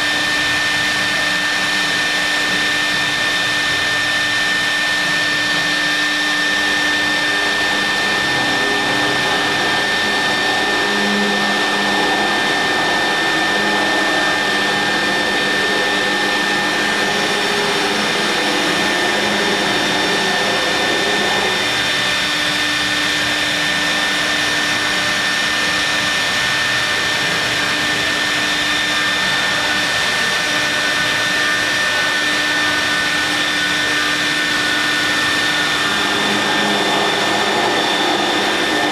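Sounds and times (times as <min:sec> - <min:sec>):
continuous rushing noise: 0:00.0 - 0:38.9
high spindle whine: 0:00.0 - 0:38.9.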